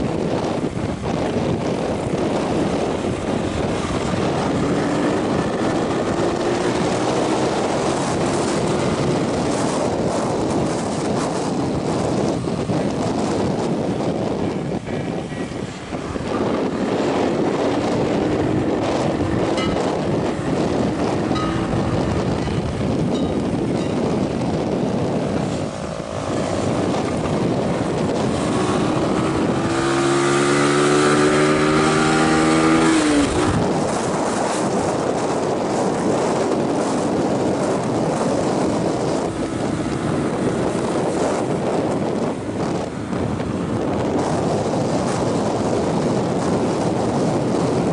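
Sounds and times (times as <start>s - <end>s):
motorcycle engine: 0.0s - 47.9s
wind and road noise: 0.0s - 47.9s.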